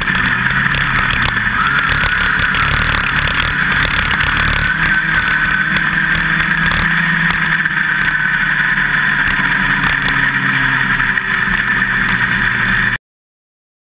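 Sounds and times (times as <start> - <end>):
race car engine running: 0.0 - 13.0.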